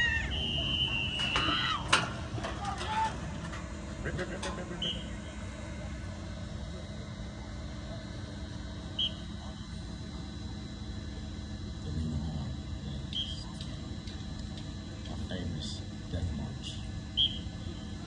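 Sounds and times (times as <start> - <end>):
faint indistinct voices: 0.0 - 18.0.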